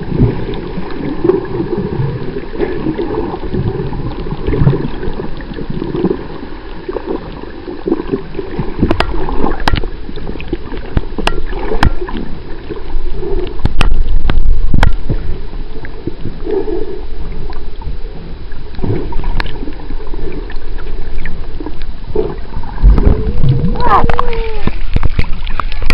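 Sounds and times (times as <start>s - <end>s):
muffled underwater gurgling: 0.0s - 25.9s.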